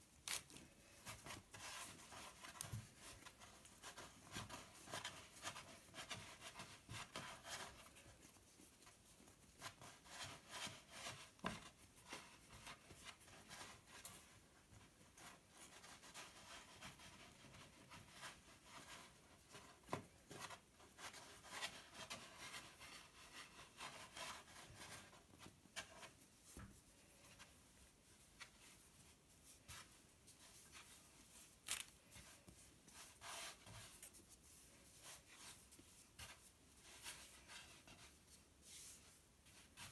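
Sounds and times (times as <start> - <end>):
hands kneading dough: 0.0 - 39.9.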